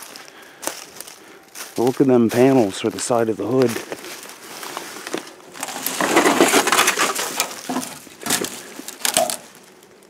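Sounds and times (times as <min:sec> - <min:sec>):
dry leaves crunching and rustling: 0:00.0 - 0:09.8.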